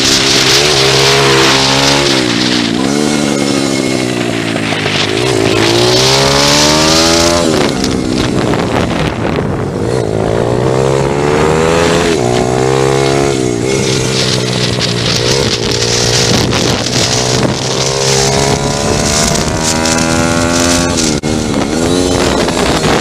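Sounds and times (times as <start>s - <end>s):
pit bike engine revving: 0.0s - 23.0s
wind rushing over microphone: 0.0s - 23.0s.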